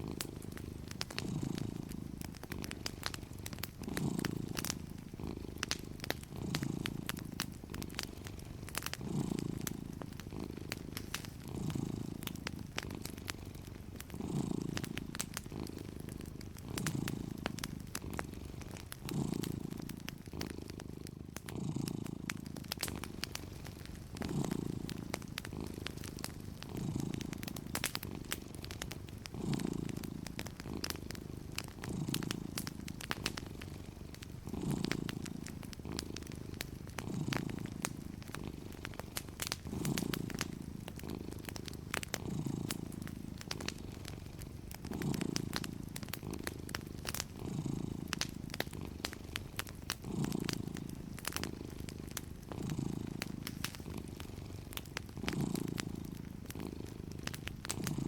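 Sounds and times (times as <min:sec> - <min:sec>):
cat purring: 0:00.0 - 0:58.0
wood fire crackling and popping: 0:00.0 - 0:58.0.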